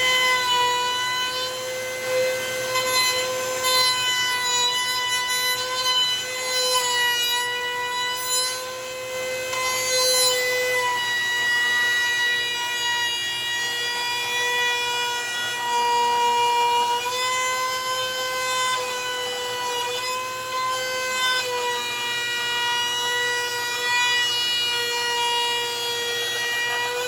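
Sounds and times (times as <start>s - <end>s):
router bit cutting wood: 0.0s - 27.0s
wood router whining: 0.0s - 27.0s.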